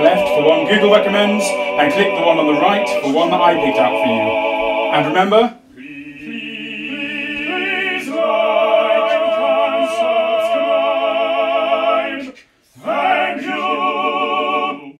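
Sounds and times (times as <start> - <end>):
operatic singing with vibrato: 0.0 - 14.9.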